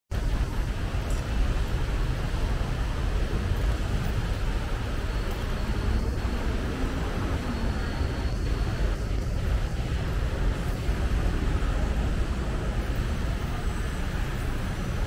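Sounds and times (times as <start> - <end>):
city traffic rumble: 0.1 - 15.0
faint high whine: 0.2 - 15.0.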